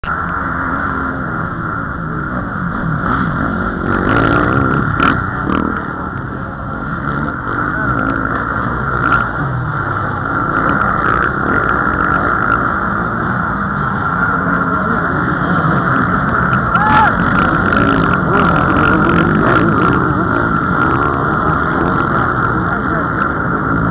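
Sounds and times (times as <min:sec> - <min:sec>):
motocross bike engines revving: 0:00.0 - 0:23.9.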